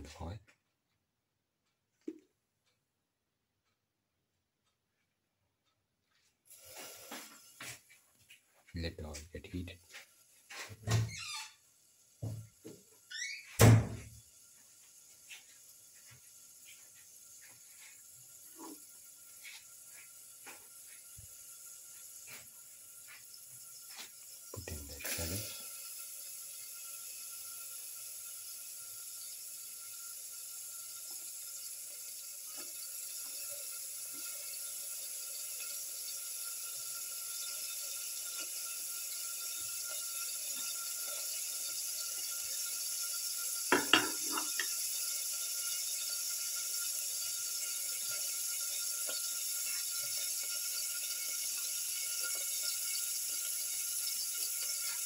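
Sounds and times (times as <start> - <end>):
shallots sizzling in hot oil: 6.5 - 7.9, 9.0 - 13.4, 14.2 - 55.0.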